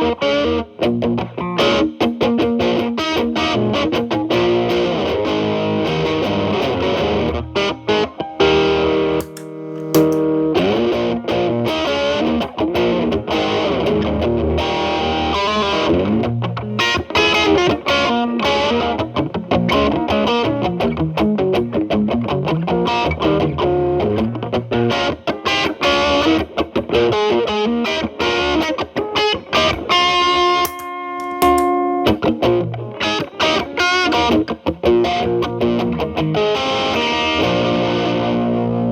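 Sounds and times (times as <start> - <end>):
electric guitar with crunchy overdrive: 0.0 - 38.9.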